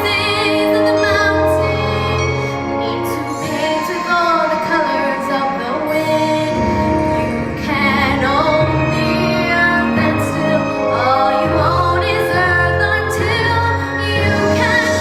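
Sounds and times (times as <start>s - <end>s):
girl singing with vibrato: 0.0s - 15.0s
instrumental accompaniment: 0.0s - 15.0s.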